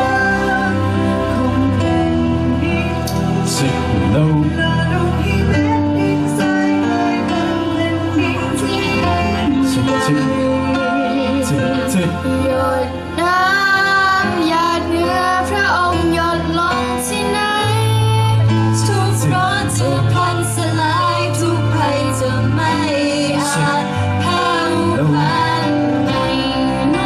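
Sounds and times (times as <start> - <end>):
woman singing: 0.0 - 3.4, 4.4 - 27.0
instrumental accompaniment with bass: 0.0 - 27.0.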